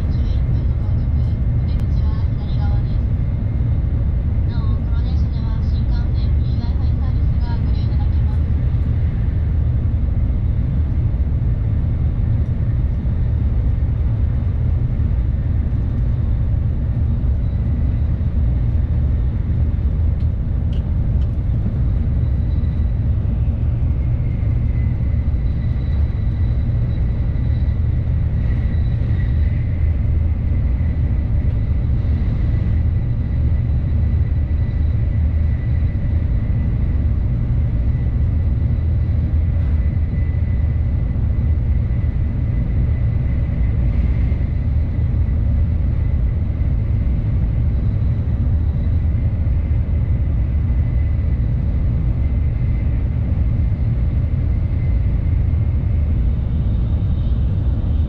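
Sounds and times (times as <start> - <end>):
faint high whine: 0.0 - 58.0
train interior rumble: 0.0 - 58.0.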